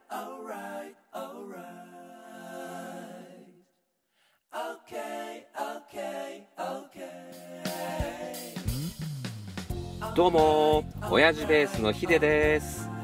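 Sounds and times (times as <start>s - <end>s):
a cappella singing: 0.0s - 3.8s, 4.5s - 8.7s, 9.8s - 13.0s.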